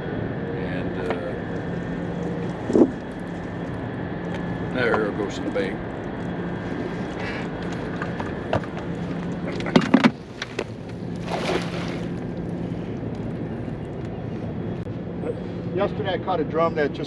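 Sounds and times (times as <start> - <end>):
boat motor humming: 0.0 - 16.8.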